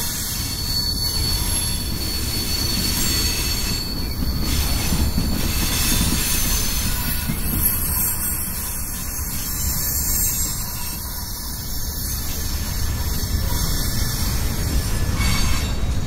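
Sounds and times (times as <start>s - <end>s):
high wheel squeal: 0.0s - 16.0s
train wheels rumbling on rail: 0.0s - 16.0s.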